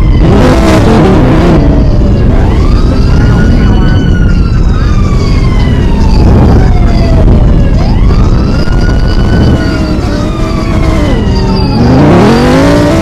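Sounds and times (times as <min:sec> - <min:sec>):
emergency vehicle siren wailing: 0:00.0 - 0:13.0
heavy traffic rumble: 0:00.0 - 0:13.0.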